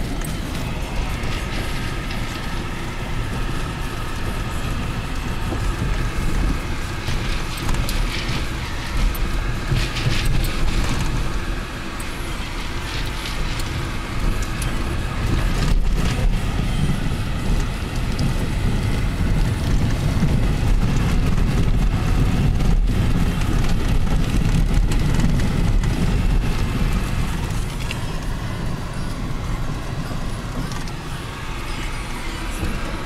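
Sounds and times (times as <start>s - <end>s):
car rumbling on gravel: 0.0s - 33.0s.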